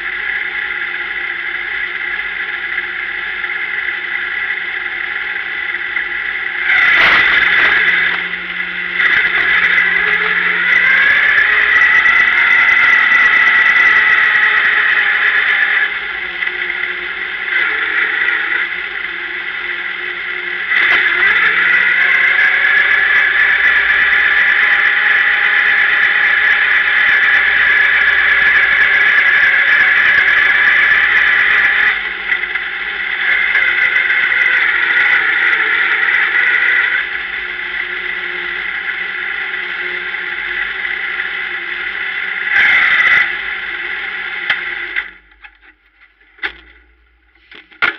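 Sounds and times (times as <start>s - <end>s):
steady high tone: 0.0s - 45.5s
race car engine running: 0.0s - 47.9s.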